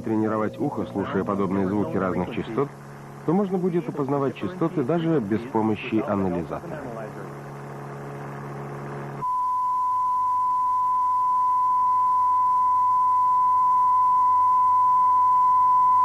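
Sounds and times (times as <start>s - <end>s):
low buzzing hum: 0.0s - 16.0s.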